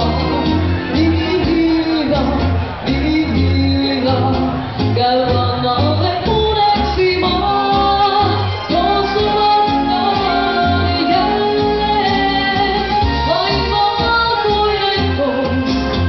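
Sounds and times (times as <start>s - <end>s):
bass line: 0.0s - 16.0s
karaoke backing track: 0.0s - 16.0s
woman singing: 0.0s - 16.0s.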